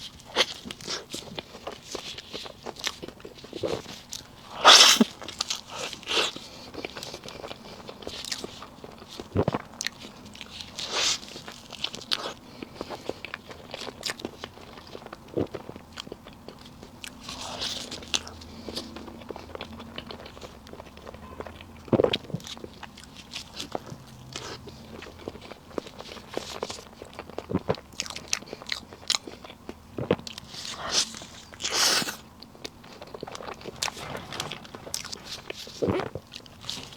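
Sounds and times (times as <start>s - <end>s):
chewing cake: 0.0s - 36.9s.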